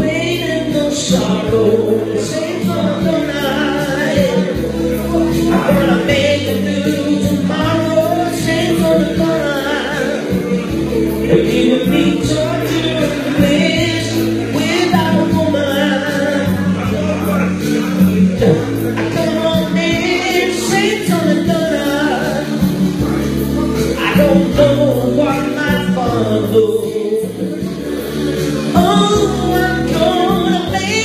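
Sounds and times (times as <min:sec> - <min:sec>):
man singing into microphone: 0:00.0 - 0:31.0
recorded pop ballad music: 0:00.0 - 0:31.0.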